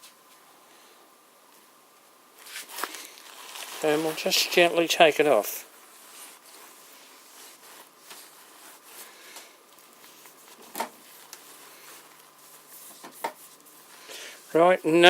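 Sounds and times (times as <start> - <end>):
cloth rubbing metal: 2.4 - 15.0.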